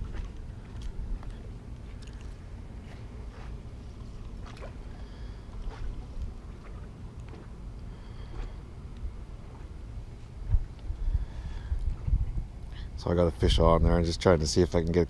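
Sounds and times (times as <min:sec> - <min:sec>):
low wind rumble on microphone: 0:00.0 - 0:15.0.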